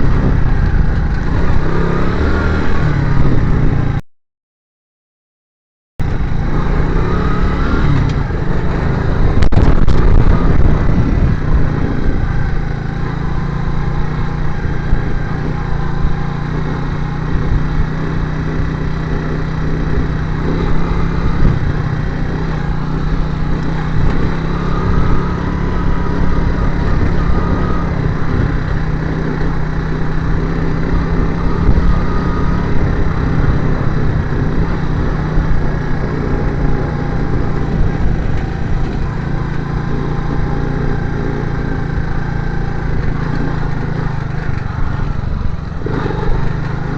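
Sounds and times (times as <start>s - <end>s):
continuous rushing noise: 0.0s - 4.0s, 6.0s - 46.9s
motorcycle engine running: 0.0s - 4.0s, 6.0s - 46.9s.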